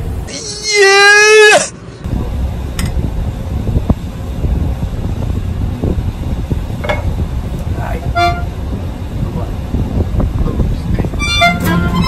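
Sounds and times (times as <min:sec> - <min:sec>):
low rumble: 0:02.0 - 0:12.0.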